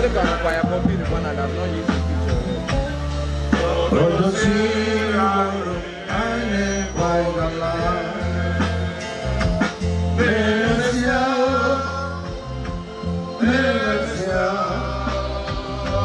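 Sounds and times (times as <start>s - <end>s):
heavy bass line: 0.0s - 16.0s
voices singing a hymn: 2.3s - 16.0s.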